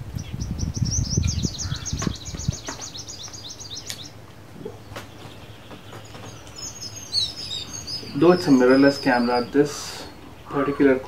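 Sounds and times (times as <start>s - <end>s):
bird trilling: 0.2s - 11.0s.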